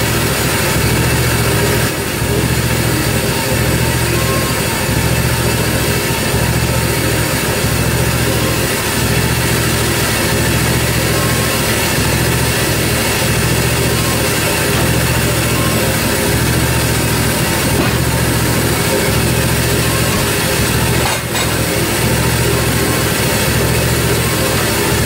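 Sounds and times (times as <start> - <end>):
sawmill engine running steadily: 0.0 - 25.0.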